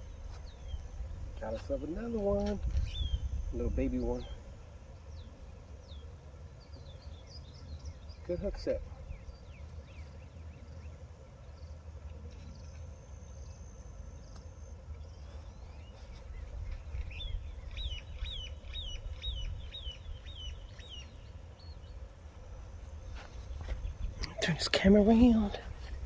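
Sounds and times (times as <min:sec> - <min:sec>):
bird chirping: 0:00.0 - 0:25.7.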